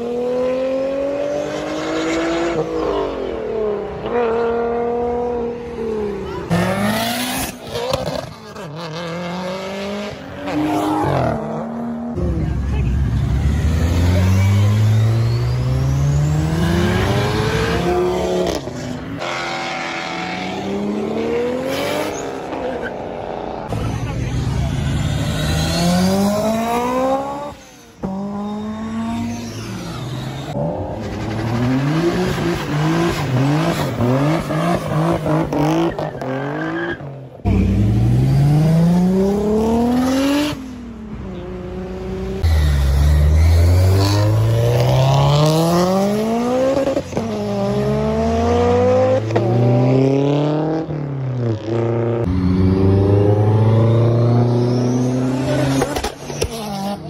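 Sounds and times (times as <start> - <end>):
sports car engines accelerating: 0.0 - 57.0.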